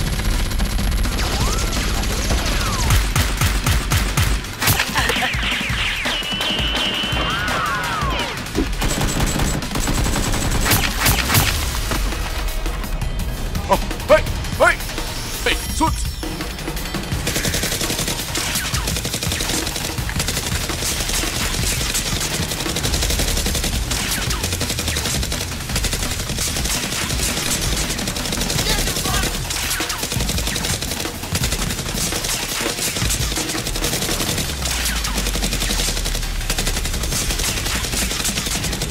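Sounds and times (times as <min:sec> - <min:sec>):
rapid automatic gunfire: 0:00.0 - 0:12.6, 0:16.5 - 0:38.9.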